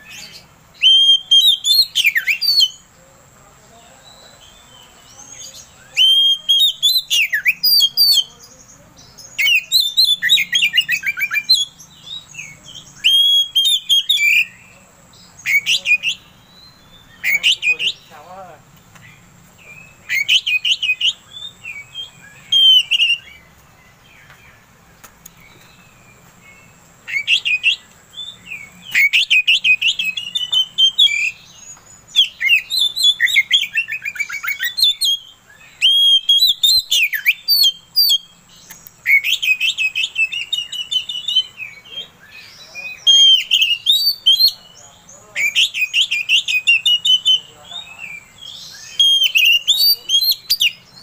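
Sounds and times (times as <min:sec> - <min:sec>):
bird singing chirps and trills: 0:00.0 - 0:51.0.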